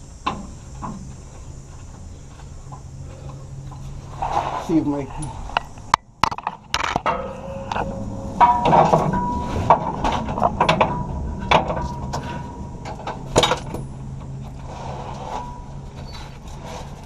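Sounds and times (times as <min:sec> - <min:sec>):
faint steady hum: 0:00.0 - 0:17.0
metal clanks and scraping: 0:00.2 - 0:17.0.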